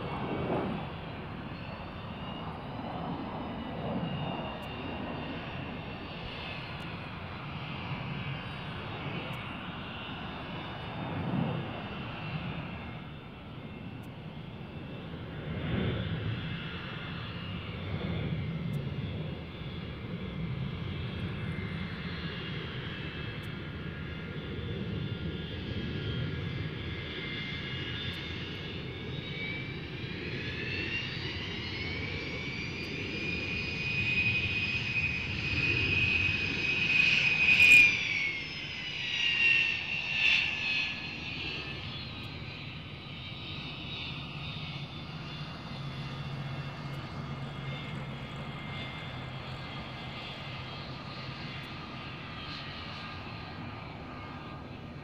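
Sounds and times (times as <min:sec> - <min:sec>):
aircraft engines rumbling: 0:00.0 - 0:55.0
high-pitched engine whine: 0:00.0 - 0:55.0.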